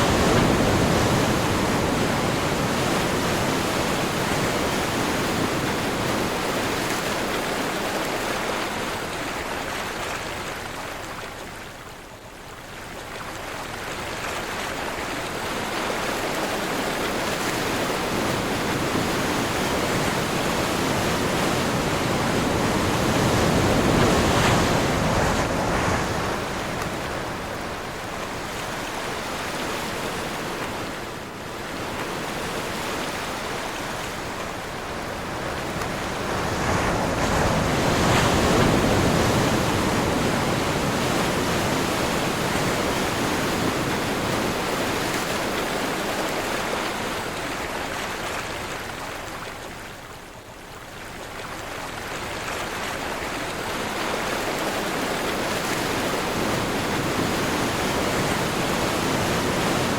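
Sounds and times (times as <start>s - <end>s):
waves breaking: 0.0s - 11.6s, 13.1s - 59.9s
wind blowing over water: 0.0s - 59.9s.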